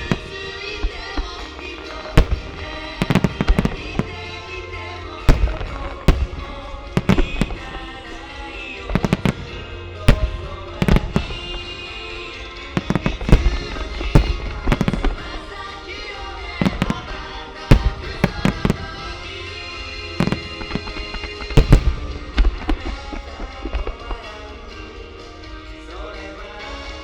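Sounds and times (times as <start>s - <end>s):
firework shells bursting: 0.0s - 24.8s
music playing: 0.0s - 27.0s.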